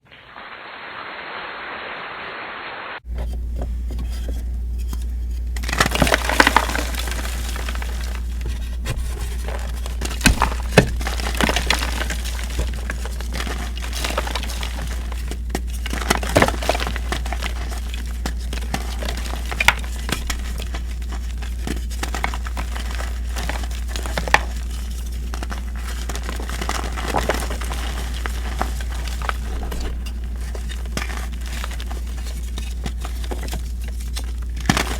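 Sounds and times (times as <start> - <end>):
steady low hum: 0.0 - 34.9
chalk crushed by hand: 3.1 - 34.9.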